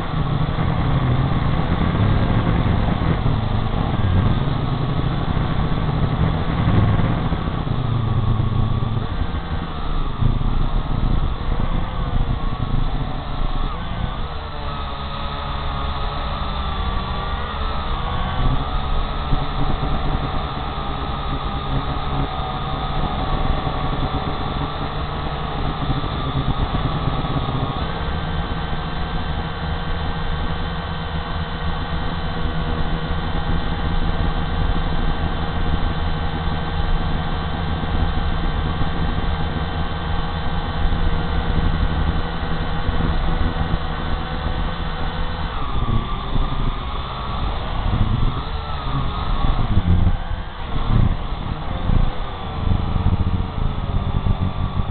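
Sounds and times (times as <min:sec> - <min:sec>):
drone motors whining: 0:00.0 - 0:54.9.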